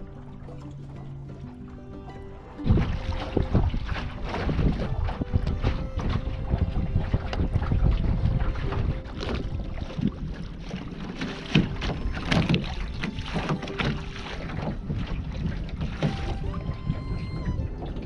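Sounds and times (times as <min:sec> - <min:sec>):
water splashing against hull: 0:00.0 - 0:18.0
wind rumble on microphone: 0:02.3 - 0:18.0.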